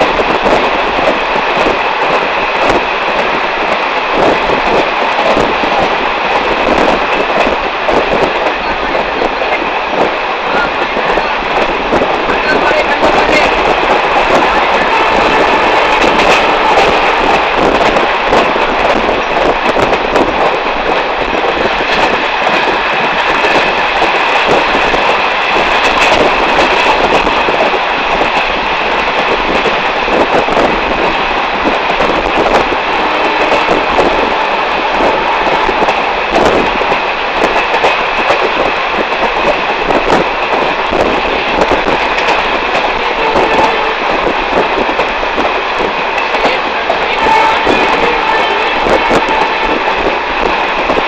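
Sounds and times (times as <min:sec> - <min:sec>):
train wheels rumbling and rattling: 0:00.0 - 0:51.0.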